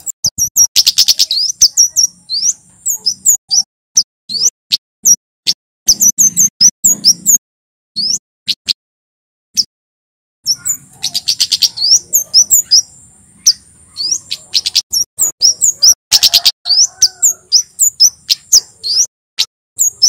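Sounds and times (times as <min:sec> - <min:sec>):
bird singing sharp high chirps: 0:00.0 - 0:05.2, 0:05.9 - 0:07.4, 0:08.0 - 0:08.8, 0:10.4 - 0:20.0.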